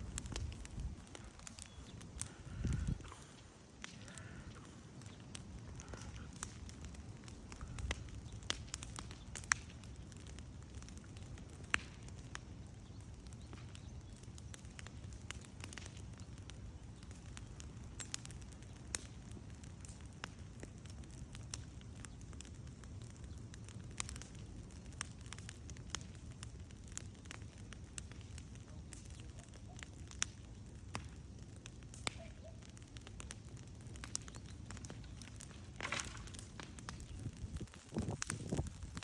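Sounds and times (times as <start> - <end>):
fire crackling and popping: 0.0 - 39.0
fire rumbling: 0.0 - 39.0.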